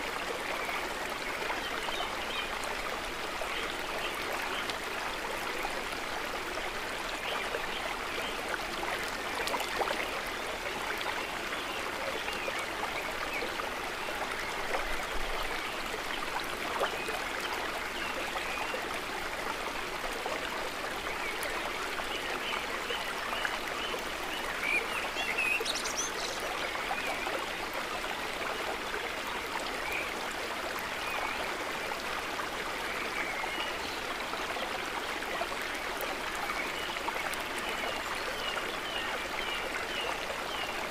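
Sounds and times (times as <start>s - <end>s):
water trickling and babbling: 0.0s - 40.9s.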